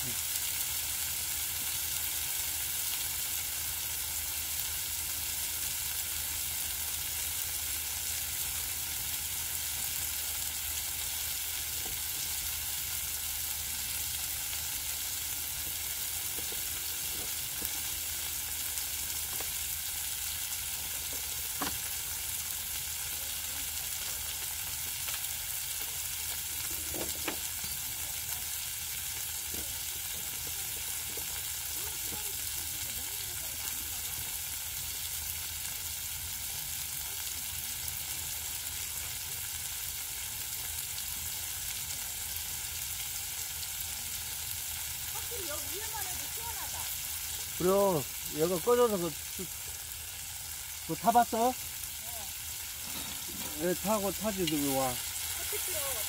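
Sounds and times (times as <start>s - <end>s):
food sizzling on griddle pan: 0.0s - 56.0s.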